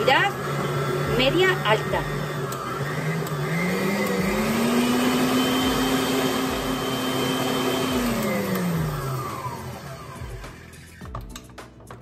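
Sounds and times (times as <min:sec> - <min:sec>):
stand mixer motor whirring: 0:00.0 - 0:11.2.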